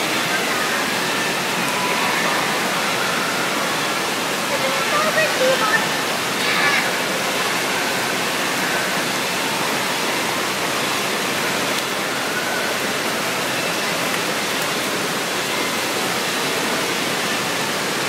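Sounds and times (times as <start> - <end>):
water rushing in a pool: 0.0 - 18.0.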